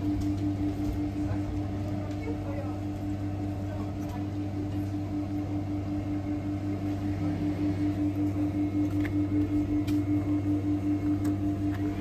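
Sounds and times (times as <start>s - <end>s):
vending machine electrical hum: 0.0s - 12.0s.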